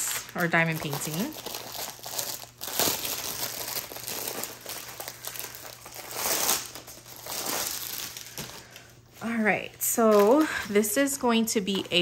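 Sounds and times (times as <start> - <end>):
plastic sleeve crinkling: 0.0 - 11.9.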